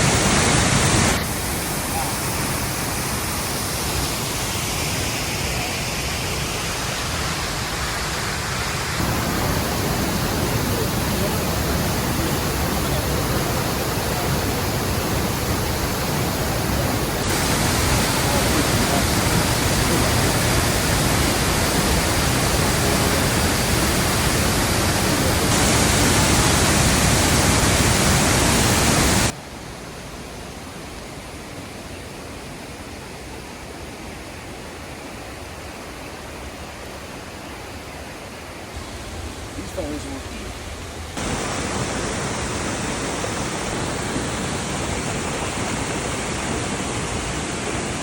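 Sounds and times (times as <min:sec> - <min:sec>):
waterfall roaring: 0:00.0 - 0:48.0.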